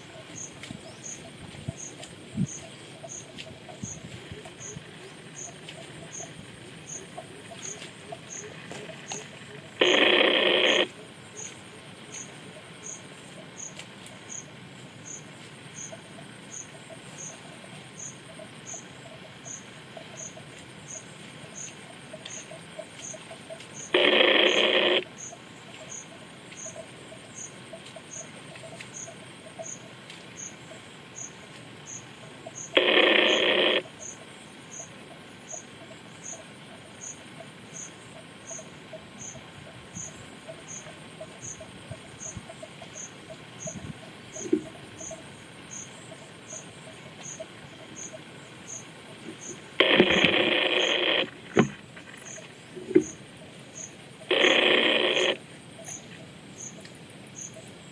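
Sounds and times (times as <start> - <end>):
loud steady tone: 0.0 - 56.1
insects chirping: 0.0 - 57.9.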